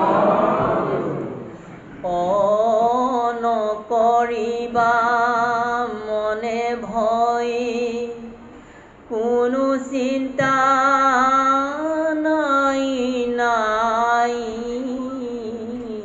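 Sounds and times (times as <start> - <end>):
man singing devotional verse: 2.0 - 8.5, 9.1 - 16.0.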